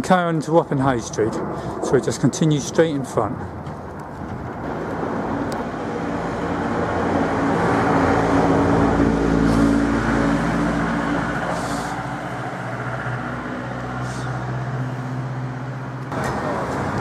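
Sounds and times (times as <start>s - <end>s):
vehicle driving past: 1.2s - 17.0s.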